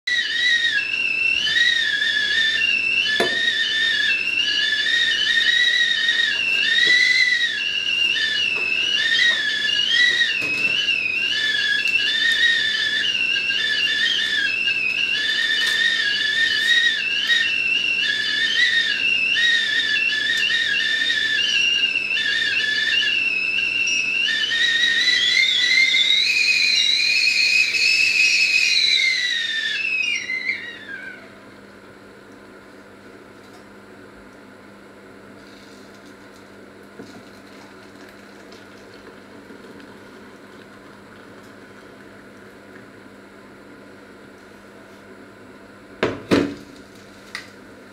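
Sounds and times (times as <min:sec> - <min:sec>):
kettle whistling: 0:00.1 - 0:47.9.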